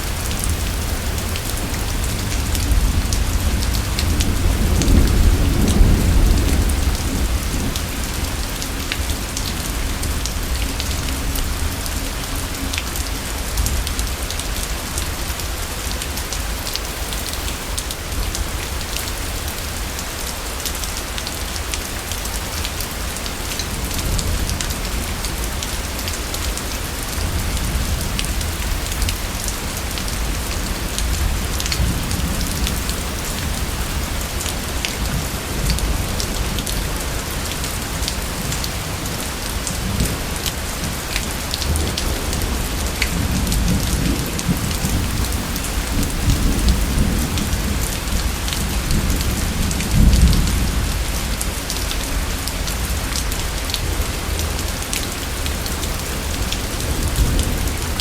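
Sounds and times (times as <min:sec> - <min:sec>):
low thunder rumble: 0:00.0 - 0:12.4, 0:23.7 - 0:58.0
heavy rain: 0:00.0 - 0:58.0.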